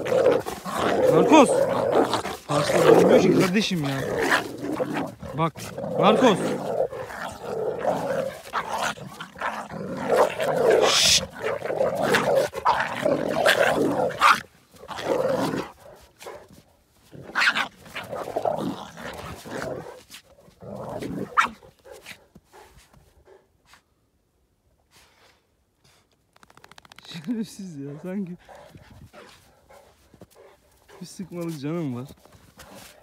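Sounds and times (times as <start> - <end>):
dogs growling and snarling: 0.0 - 23.4, 26.5 - 33.0.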